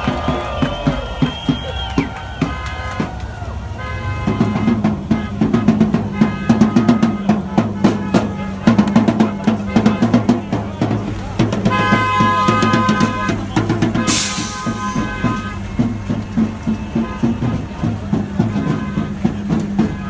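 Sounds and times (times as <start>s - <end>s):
marching drum beat: 0.0s - 20.0s.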